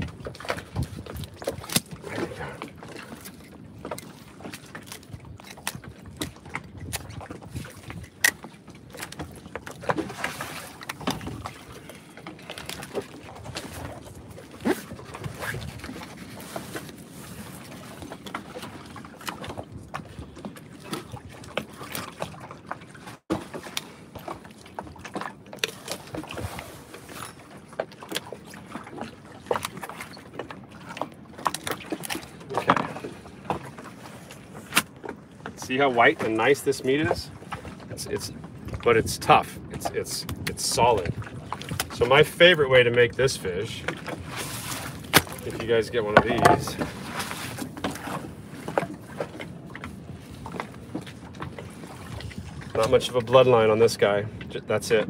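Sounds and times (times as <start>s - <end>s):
water: 0.0s - 55.0s
wind: 0.0s - 55.0s.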